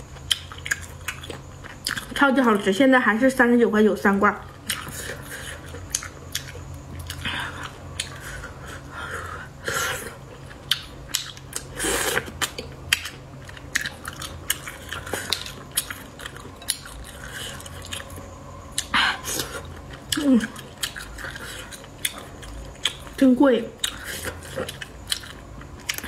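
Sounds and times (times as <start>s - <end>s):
wet chewing: 0.1s - 2.7s, 4.6s - 26.0s.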